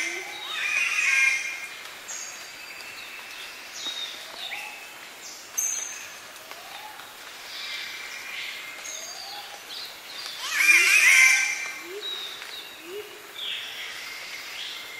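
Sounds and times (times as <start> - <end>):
steady background hiss: 0.0 - 14.9.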